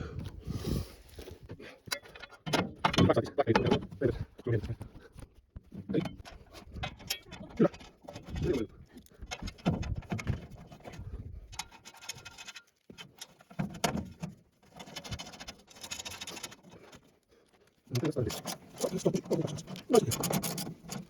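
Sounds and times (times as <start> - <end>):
hands and tools knocking and scraping: 1.8 - 17.2, 17.9 - 21.0.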